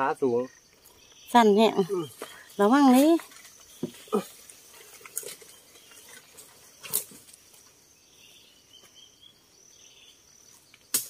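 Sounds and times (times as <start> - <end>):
high insect buzz: 0.0 - 11.0.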